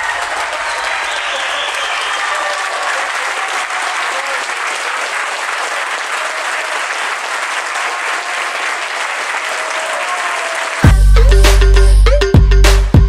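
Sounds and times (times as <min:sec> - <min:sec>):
crowd applauding: 0:00.0 - 0:11.1.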